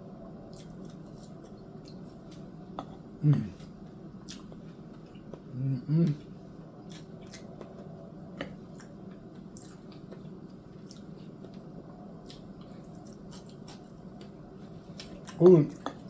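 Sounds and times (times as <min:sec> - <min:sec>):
person chewing: 0:00.5 - 0:11.6, 0:12.2 - 0:16.0.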